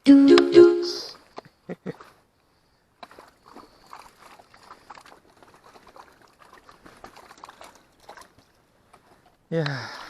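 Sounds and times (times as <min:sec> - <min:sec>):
water trickling in shallow stream: 0:01.9 - 0:10.0.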